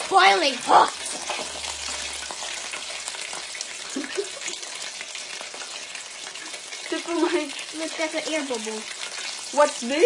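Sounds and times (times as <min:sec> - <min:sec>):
hot oil sizzling in a pan: 0:00.0 - 0:10.0.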